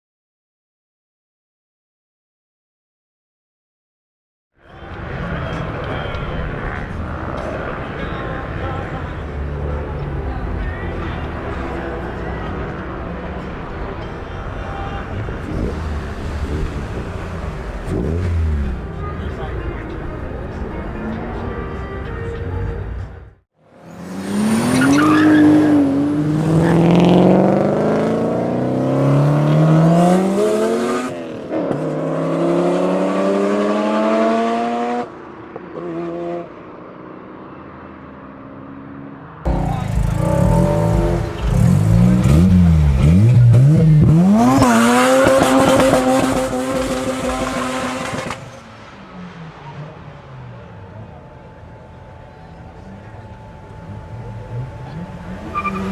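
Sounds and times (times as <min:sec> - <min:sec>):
rotary engine revving: 0:04.7 - 0:34.9, 0:39.5 - 0:55.9.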